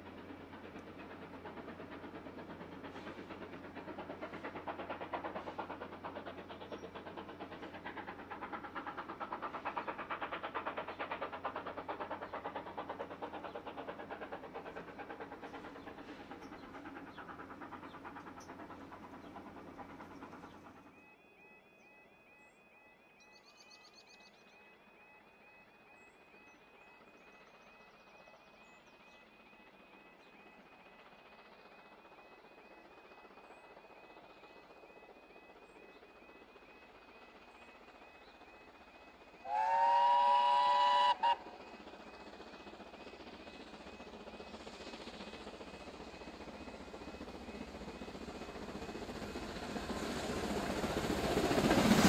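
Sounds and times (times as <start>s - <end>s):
steam locomotive passing: 0.0s - 52.0s.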